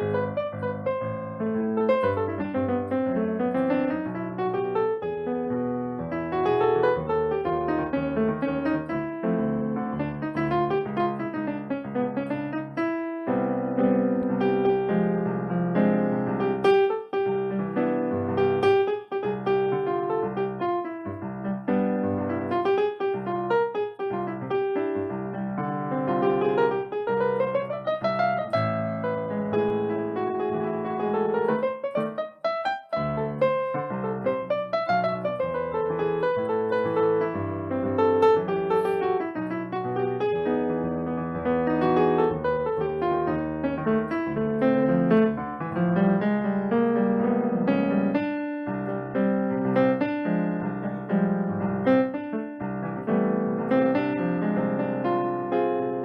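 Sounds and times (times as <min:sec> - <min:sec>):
jazz piano playing: 0:00.0 - 0:56.0.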